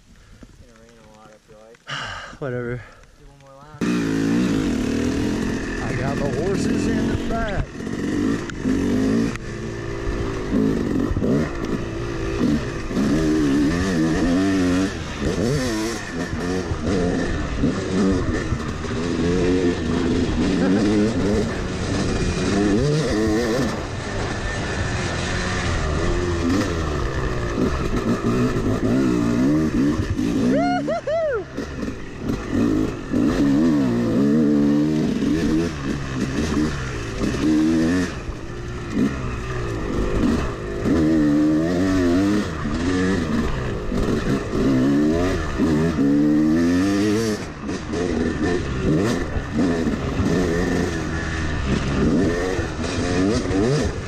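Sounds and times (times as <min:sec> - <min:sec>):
dirt bike engine revving: 0:00.7 - 0:54.0.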